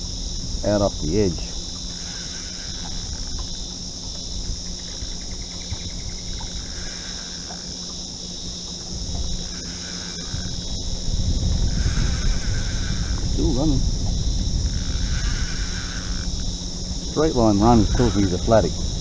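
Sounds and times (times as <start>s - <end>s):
higher insect buzz: 0.0s - 19.0s
insects buzzing: 0.0s - 19.0s
low rumbling noise: 2.8s - 19.0s.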